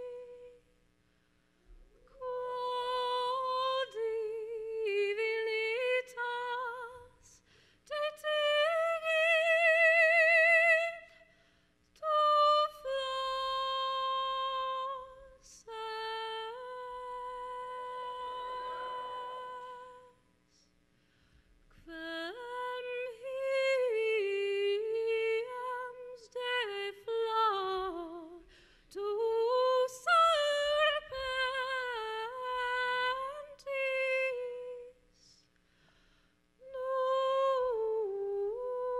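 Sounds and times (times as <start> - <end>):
woman singing unaccompanied: 0.0 - 0.6, 2.1 - 11.2, 12.0 - 20.2, 21.8 - 35.0, 36.6 - 38.9.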